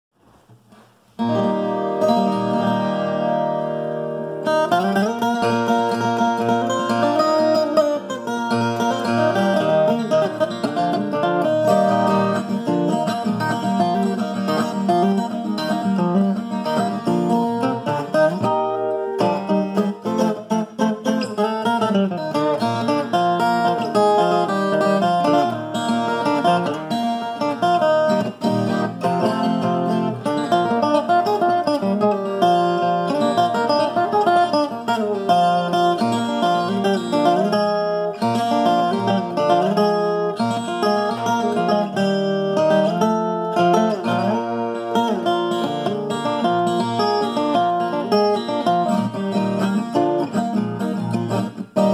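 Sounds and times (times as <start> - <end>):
plucked ten-string guitar melody: 0.5 - 51.9.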